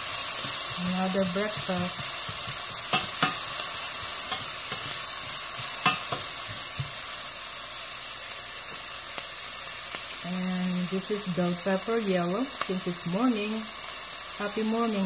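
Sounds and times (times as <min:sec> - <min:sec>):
onions sizzling in a pan: 0:00.0 - 0:15.0.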